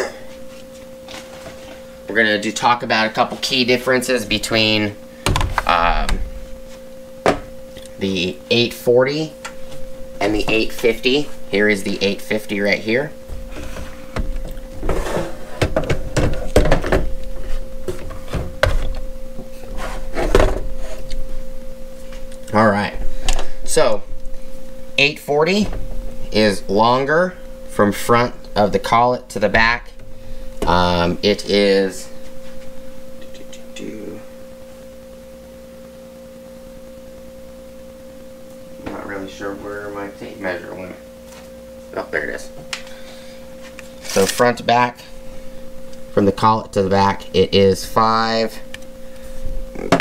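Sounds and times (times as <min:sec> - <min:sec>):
steady electrical whine: 0:00.0 - 0:50.0.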